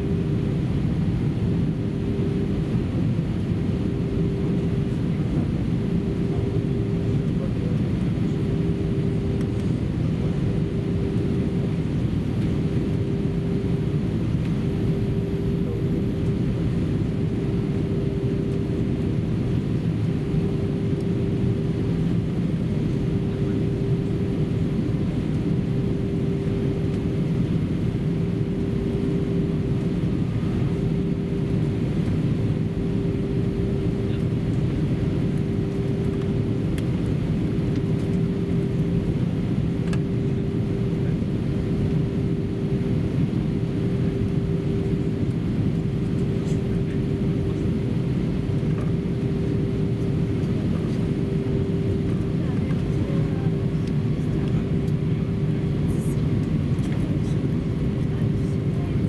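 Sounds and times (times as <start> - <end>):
airplane cabin engine drone: 0.0 - 59.0
steady hum-like tone: 0.0 - 59.0.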